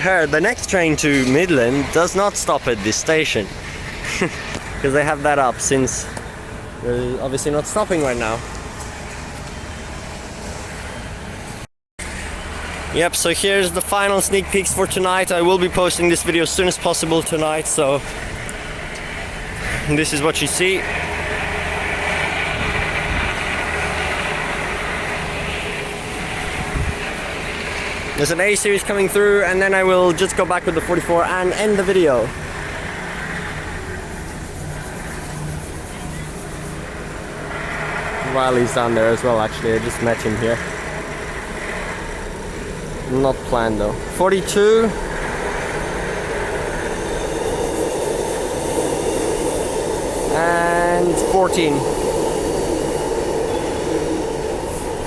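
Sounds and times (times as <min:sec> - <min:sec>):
electric train passing: 0:00.0 - 0:55.0
vehicle droning: 0:00.0 - 0:55.0.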